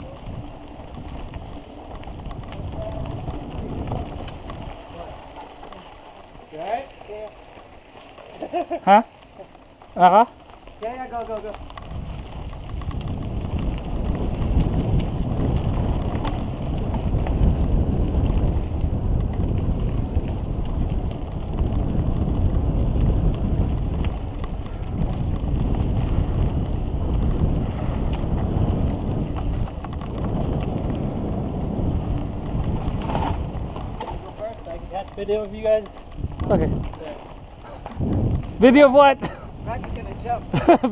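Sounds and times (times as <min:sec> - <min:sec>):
wind rushing over microphone: 0:00.0 - 0:07.4, 0:10.7 - 0:40.9
bike clicks and rattles: 0:00.0 - 0:40.9
tyres rumbling on dirt: 0:00.0 - 0:40.9.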